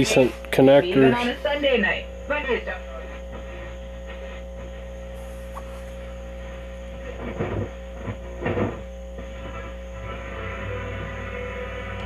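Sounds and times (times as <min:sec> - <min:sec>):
tube radio hum and hiss: 0:00.0 - 0:12.0.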